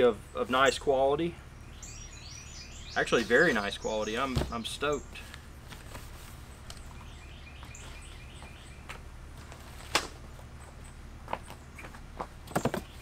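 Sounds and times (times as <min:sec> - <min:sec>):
bird chirping: 0:00.0 - 0:05.5, 0:06.4 - 0:09.0, 0:10.6 - 0:13.0
outdoor background: 0:00.0 - 0:13.0.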